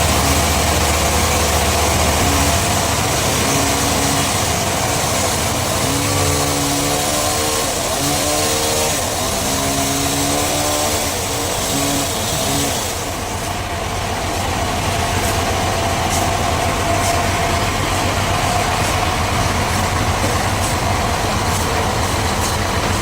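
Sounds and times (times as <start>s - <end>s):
sawmill machinery humming: 0.0s - 23.0s
steady machine whine: 0.0s - 23.0s.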